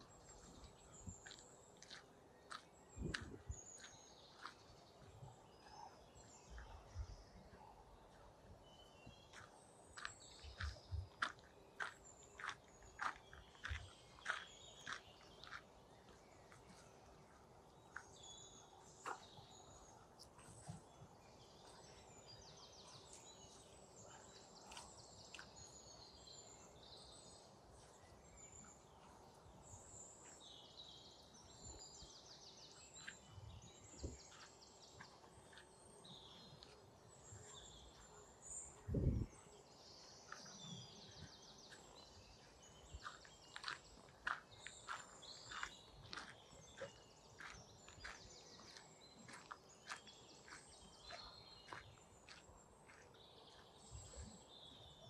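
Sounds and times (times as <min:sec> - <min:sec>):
faint songbirds trilling: 0:00.0 - 0:55.0.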